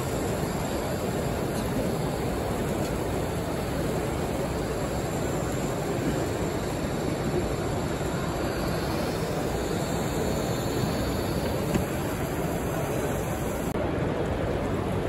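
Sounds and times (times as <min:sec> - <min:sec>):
murmur of crowd: 0:00.0 - 0:15.0.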